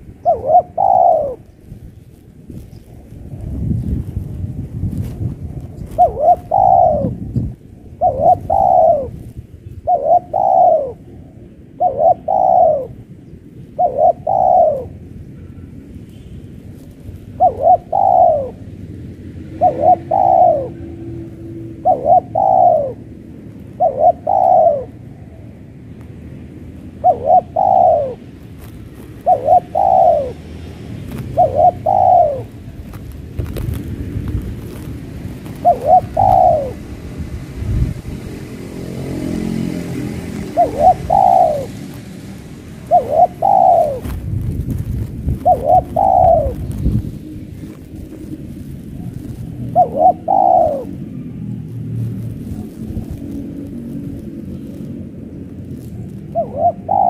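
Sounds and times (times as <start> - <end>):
dove cooing: 0.0 - 3.5, 5.6 - 15.7, 16.8 - 18.8, 19.5 - 25.8, 26.6 - 37.1, 38.5 - 57.0.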